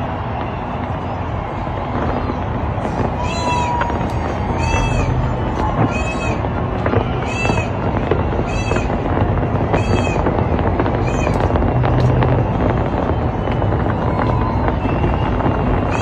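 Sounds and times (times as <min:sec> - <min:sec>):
fireworks bangs: 0:01.8 - 0:16.0
fireworks crackling: 0:01.8 - 0:16.0.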